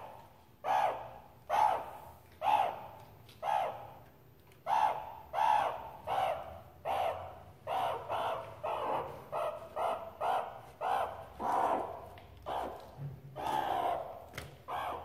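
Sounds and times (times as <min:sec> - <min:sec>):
meerkat scratchy calls: 0:00.0 - 0:04.0, 0:04.6 - 0:15.0.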